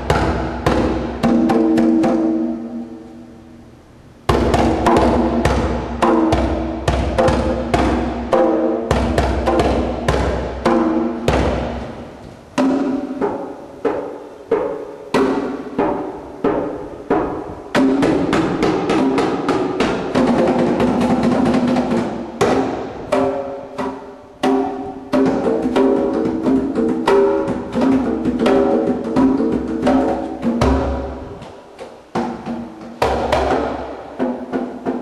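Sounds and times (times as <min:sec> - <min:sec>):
hand drums playing fast rhythm: 0:00.0 - 0:02.8, 0:04.3 - 0:31.2, 0:32.0 - 0:35.0.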